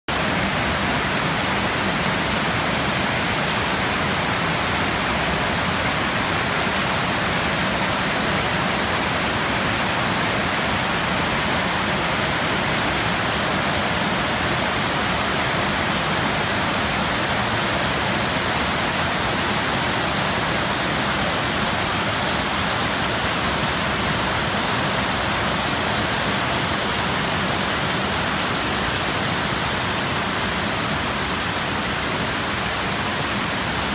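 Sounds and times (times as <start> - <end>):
floodwater rushing: 0.1 - 33.9.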